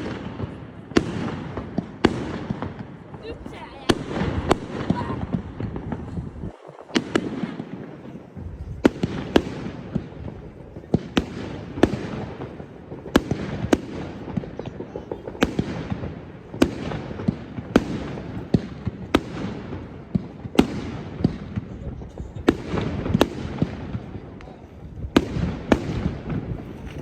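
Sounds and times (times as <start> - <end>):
distant fireworks crackle and rumble: 0.0 - 27.0
loud firework bangs: 0.0 - 27.0.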